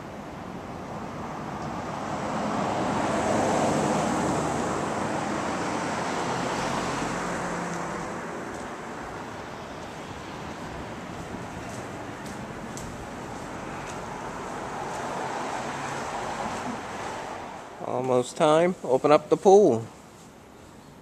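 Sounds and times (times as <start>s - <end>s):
car passing by: 0.6s - 17.8s.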